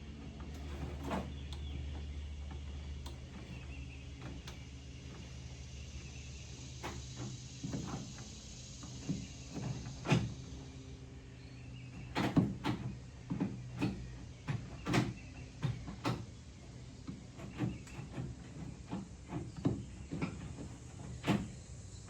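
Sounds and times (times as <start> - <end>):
steady low hum: 0.0 - 22.0
gear shifter clunks and clicks: 0.4 - 5.8, 6.6 - 10.6, 11.8 - 22.0.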